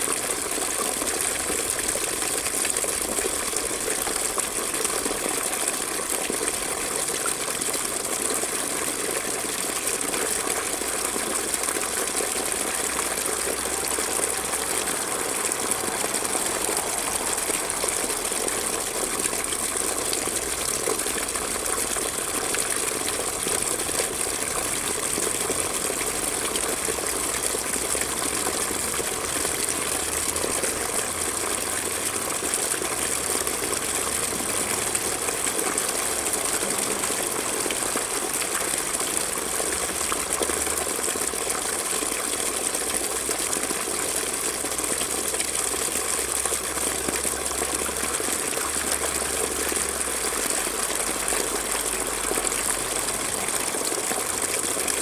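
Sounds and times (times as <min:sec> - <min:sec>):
water trickling into a pool: 0:00.0 - 0:55.0.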